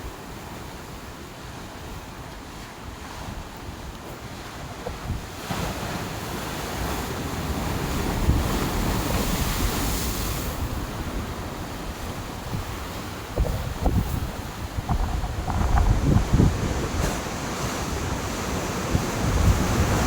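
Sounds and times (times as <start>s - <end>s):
ocean surf breaking: 0.1s - 20.0s
wind buffeting microphone: 0.9s - 5.9s, 6.8s - 20.0s.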